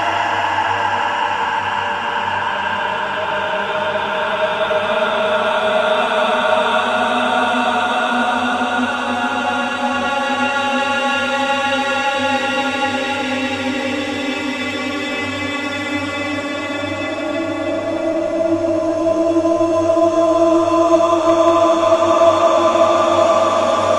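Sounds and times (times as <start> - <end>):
ambient music with chant-like drone: 0.0 - 23.9.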